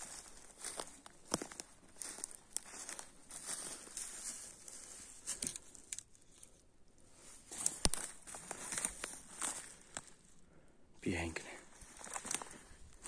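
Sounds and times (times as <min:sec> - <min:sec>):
footsteps crunching on pine needles: 0:00.0 - 0:10.4, 0:11.2 - 0:13.0.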